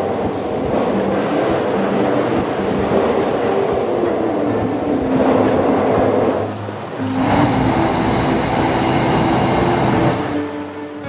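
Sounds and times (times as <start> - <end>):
train wheels rumbling on rail: 0.0 - 10.6
ringing wheel tones: 0.0 - 11.0.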